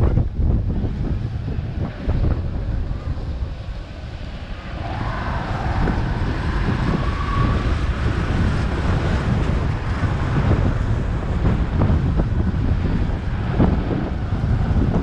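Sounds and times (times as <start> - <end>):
vehicle rumble on rough concrete: 0.0 - 15.0
wind buffeting microphone: 0.0 - 15.0.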